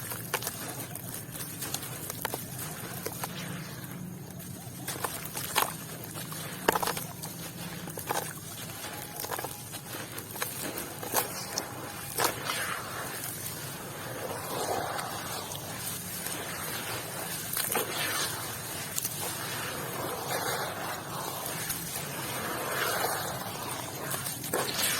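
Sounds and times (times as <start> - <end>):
wet sand mashed in water: 0.0 - 24.9.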